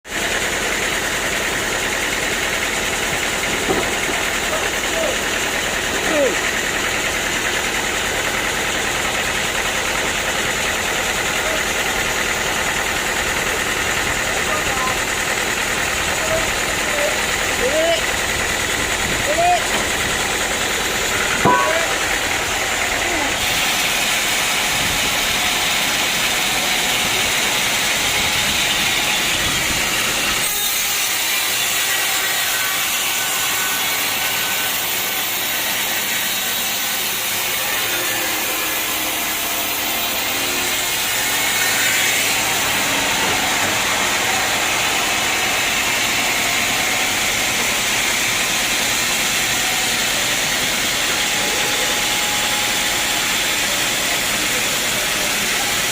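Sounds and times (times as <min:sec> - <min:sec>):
saw cutting through log: 0:00.0 - 0:55.9.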